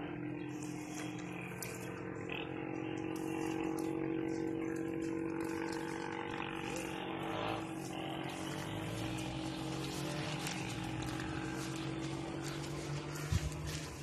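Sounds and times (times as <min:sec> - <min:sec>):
engine running with steady hum: 0:00.0 - 0:14.0.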